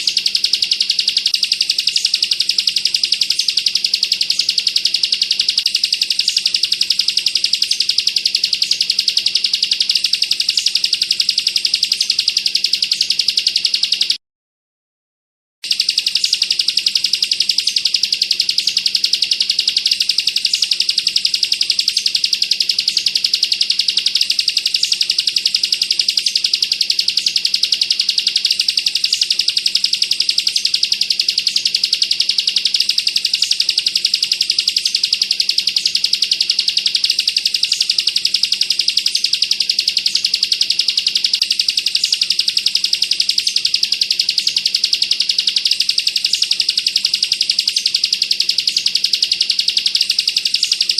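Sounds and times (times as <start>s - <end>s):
bird high-pitched trill: 0.0s - 14.2s, 15.6s - 50.9s.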